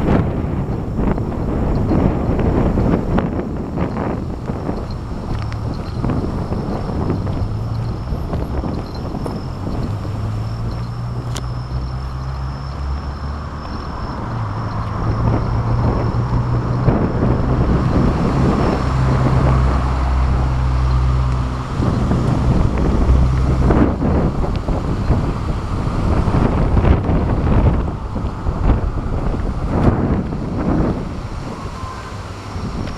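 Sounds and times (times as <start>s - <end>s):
strong wind buffeting microphone: 0.0s - 32.9s.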